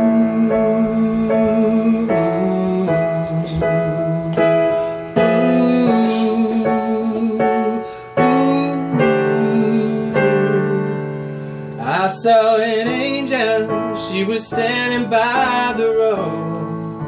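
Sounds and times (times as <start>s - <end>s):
keyboard playing held chords: 0.0s - 17.0s.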